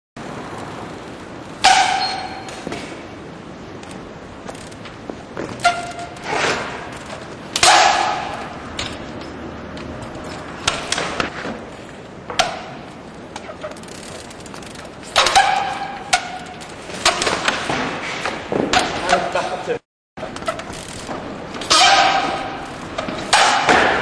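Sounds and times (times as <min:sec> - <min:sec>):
bike knocking against metal: 0:00.9 - 0:03.1, 0:03.8 - 0:06.2, 0:06.9 - 0:19.4, 0:20.2 - 0:24.0.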